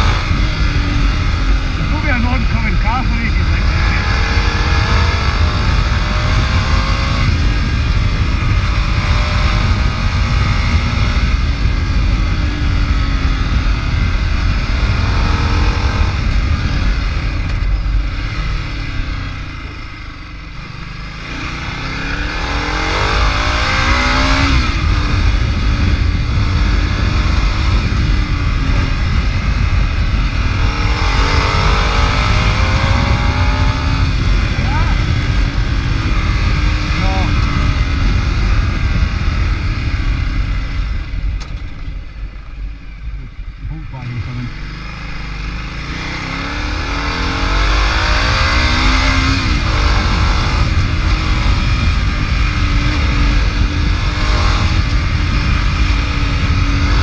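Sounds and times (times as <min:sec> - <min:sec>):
motorcycle engine revving: 0:00.0 - 0:57.0
wind rumble on microphone: 0:00.0 - 0:57.0.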